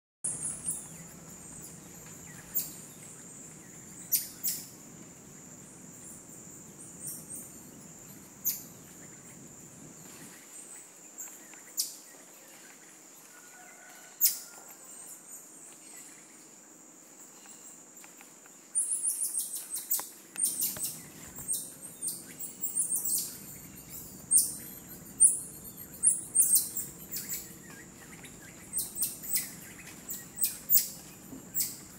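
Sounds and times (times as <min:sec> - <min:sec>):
insect drone: 0:00.3 - 0:31.9.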